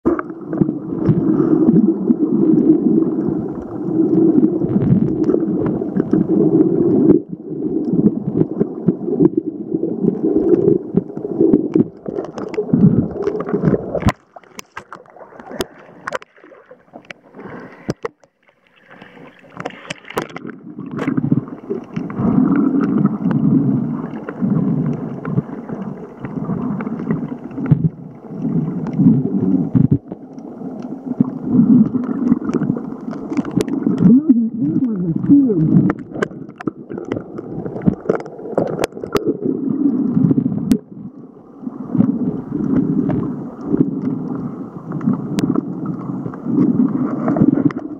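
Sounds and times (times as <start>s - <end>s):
underwater rumbling gurgle: 0.0s - 47.9s
water splashes: 0.0s - 47.9s.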